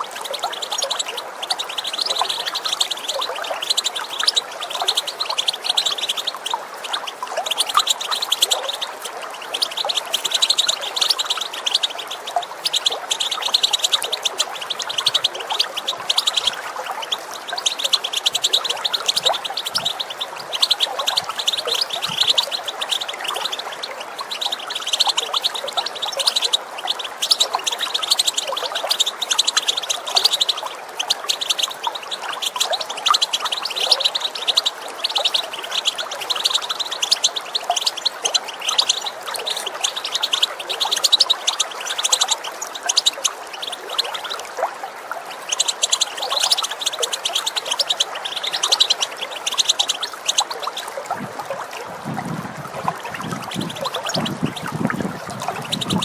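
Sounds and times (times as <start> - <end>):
finch twittering and chirping: 0.0 - 44.4, 45.4 - 51.0, 52.3 - 56.0
running water: 0.0 - 56.0.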